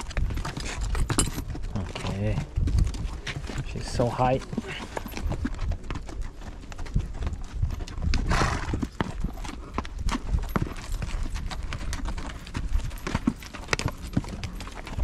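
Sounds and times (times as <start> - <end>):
horse hooves on stony sand: 0.0 - 15.0.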